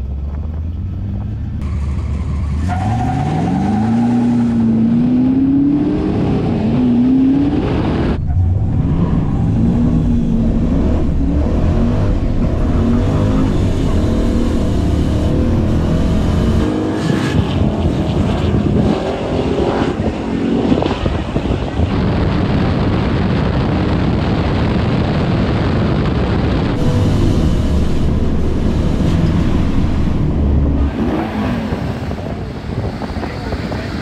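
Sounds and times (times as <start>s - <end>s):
car engines rumbling: 0.0s - 34.0s.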